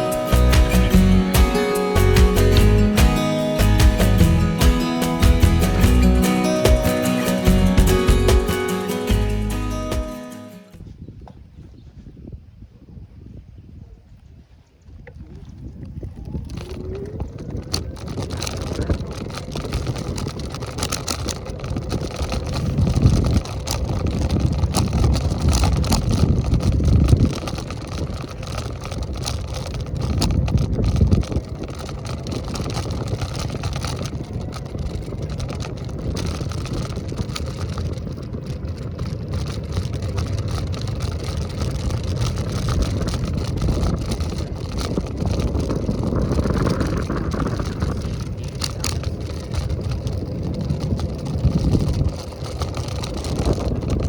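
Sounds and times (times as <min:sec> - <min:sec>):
scooter wheel noise: 0:00.0 - 0:11.4, 0:14.5 - 0:54.0
wind rumbling on microphone: 0:10.7 - 0:54.0.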